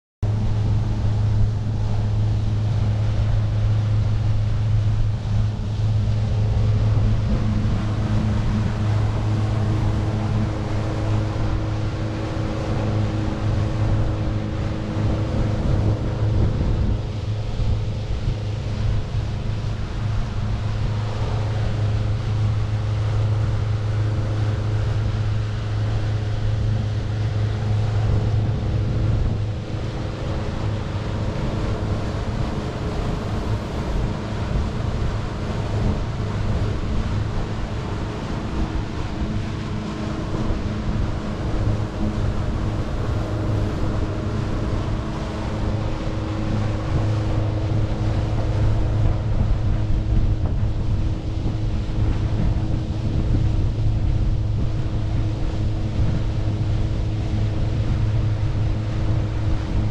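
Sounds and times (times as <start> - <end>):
motorboat engine droning: 0.2 - 59.9
wind noise: 0.2 - 59.9
water rushing: 0.3 - 59.9.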